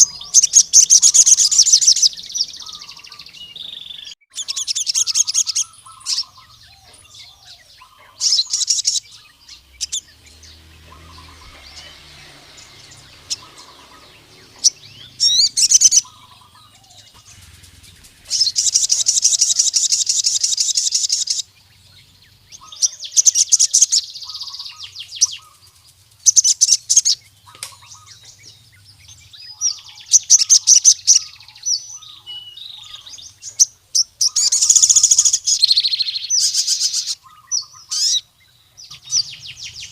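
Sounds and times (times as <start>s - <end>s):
sunbird rapid high trilling: 0.0s - 38.3s
quiet bird twittering: 0.0s - 39.9s.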